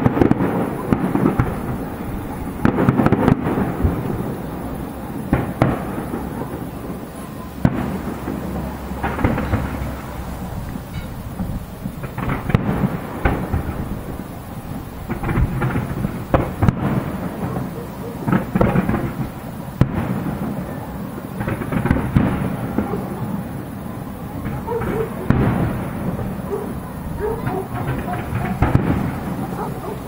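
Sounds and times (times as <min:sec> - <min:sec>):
firework shells bursting: 0:00.0 - 0:30.0
low rumble and crackle: 0:00.0 - 0:30.0.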